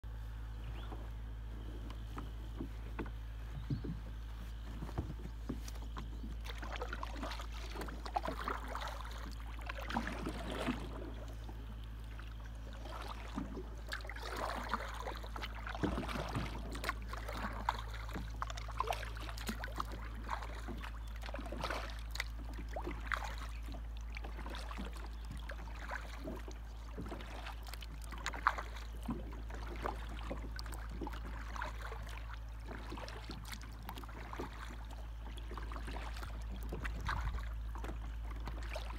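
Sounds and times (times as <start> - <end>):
steady low hum: 0.0 - 38.9
paddle splashing in water: 0.7 - 38.9.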